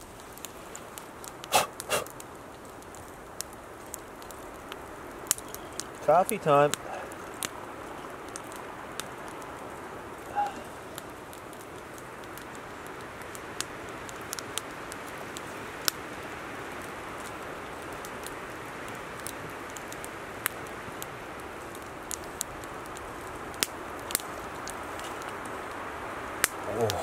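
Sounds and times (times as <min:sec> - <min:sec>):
campfire crackling and popping: 0:00.0 - 0:27.0
fire hissing: 0:00.0 - 0:27.0.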